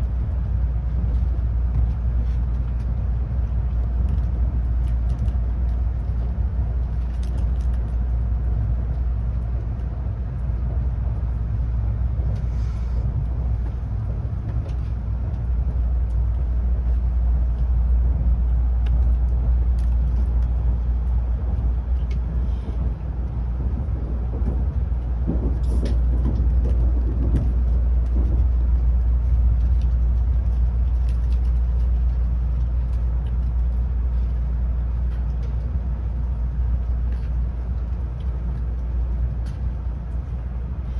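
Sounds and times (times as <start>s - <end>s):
train rumble from inside: 0.0s - 40.9s.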